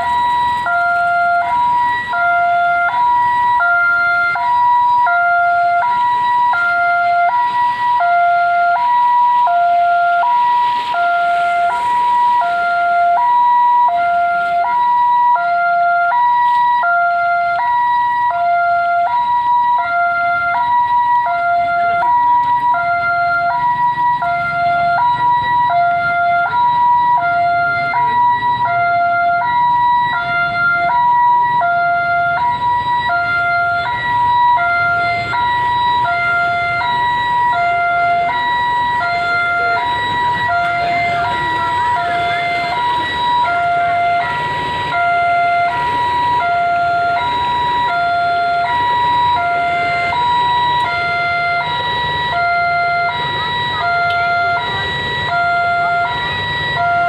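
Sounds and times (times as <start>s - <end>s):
level crossing two-tone alarm: 0.0s - 57.0s.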